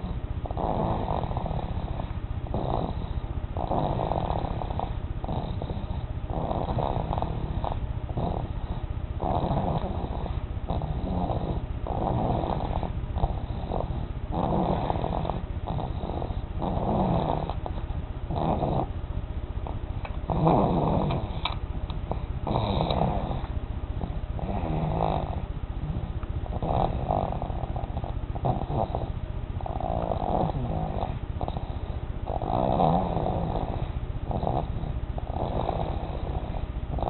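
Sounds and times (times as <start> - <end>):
person snoring: 0.0 - 18.9, 20.3 - 21.5, 22.1 - 37.0.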